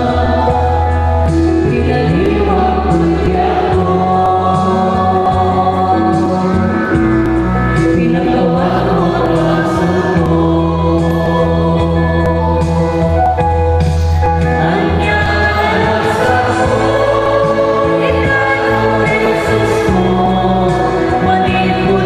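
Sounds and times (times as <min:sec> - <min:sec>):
choir singing a hymn: 0:00.0 - 0:07.0, 0:08.0 - 0:13.0, 0:14.4 - 0:22.0
sustained low accompaniment: 0:00.0 - 0:22.0.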